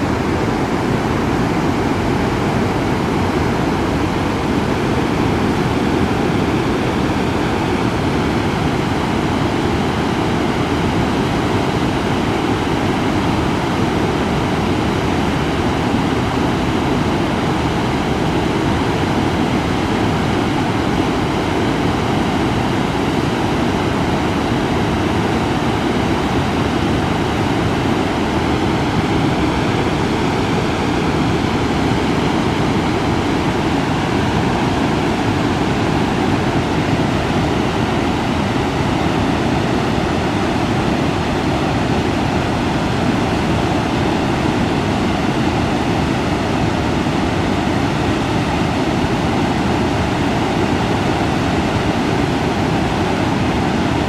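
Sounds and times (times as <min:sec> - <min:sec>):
river water rushing over weir: 0:00.0 - 0:54.0.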